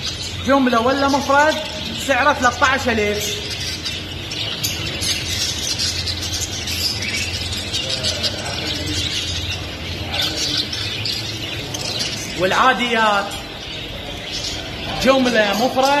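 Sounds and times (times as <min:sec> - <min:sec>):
budgerigars chirping and chattering: 0:00.0 - 0:16.0
steady low hum: 0:00.0 - 0:16.0.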